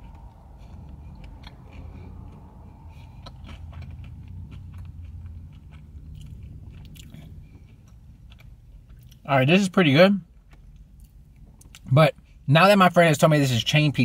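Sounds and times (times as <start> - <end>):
person chewing crispy pizza: 0.0 - 11.9
low steady rumble: 0.0 - 14.0.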